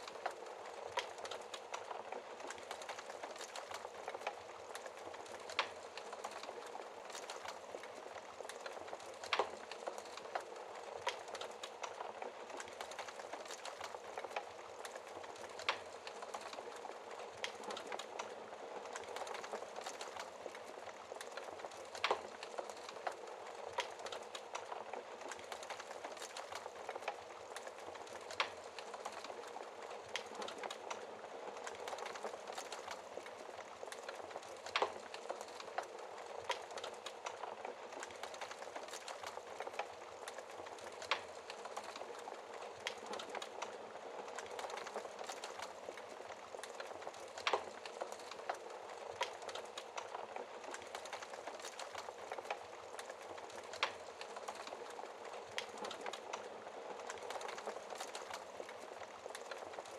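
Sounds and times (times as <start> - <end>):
wood fire hissing and crackling: 0.0 - 59.9.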